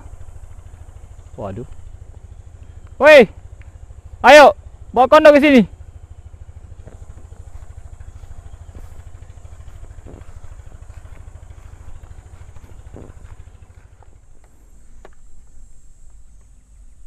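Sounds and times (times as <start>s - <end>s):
small engine throbbing: 0.0s - 17.0s.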